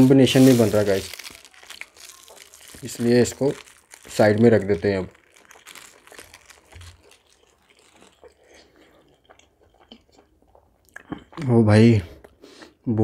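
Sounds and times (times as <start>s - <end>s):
person chewing food: 0.5s - 11.4s.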